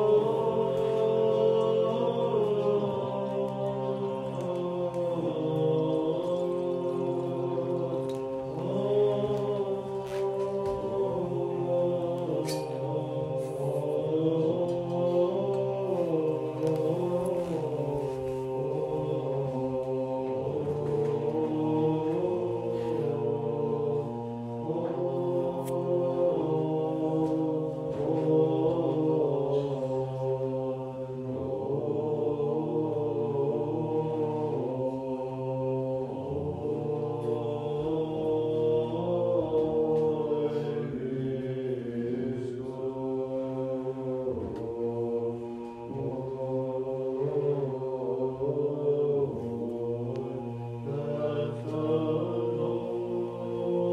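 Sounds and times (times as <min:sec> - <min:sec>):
men chanting a hymn: 0:00.0 - 0:53.9.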